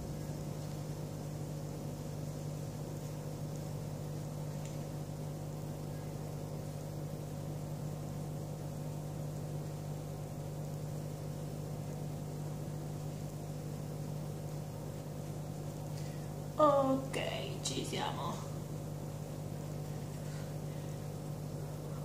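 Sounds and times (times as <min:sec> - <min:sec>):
faint whir: 0:00.0 - 0:22.0
low mechanical hum: 0:00.0 - 0:22.0.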